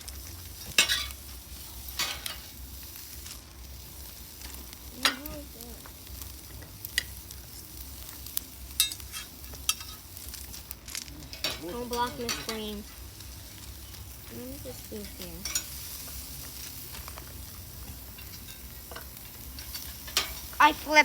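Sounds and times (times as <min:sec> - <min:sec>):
cooking utensils clicking and scraping: 0:00.0 - 0:21.0
meat sizzling on a grill: 0:00.0 - 0:21.0.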